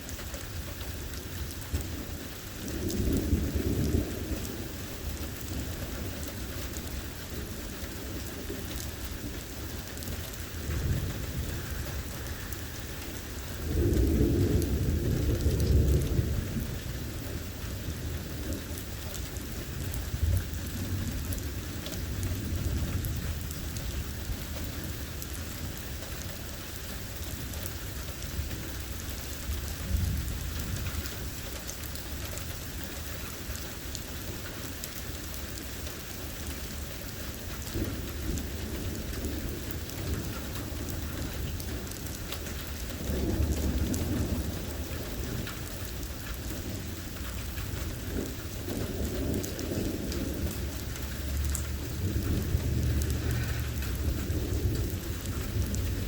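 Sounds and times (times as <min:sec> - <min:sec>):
steady rain: 0:00.0 - 0:56.0
thunder rumbling: 0:01.5 - 0:26.5, 0:27.4 - 0:32.0, 0:37.3 - 0:56.0.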